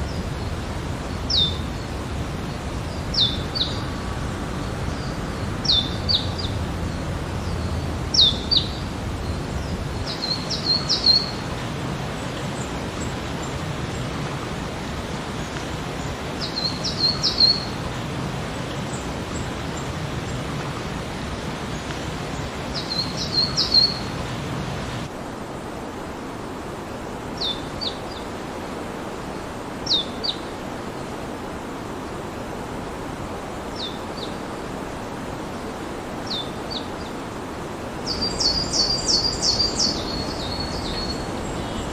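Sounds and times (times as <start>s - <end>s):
steady rain hiss: 0.0s - 41.9s.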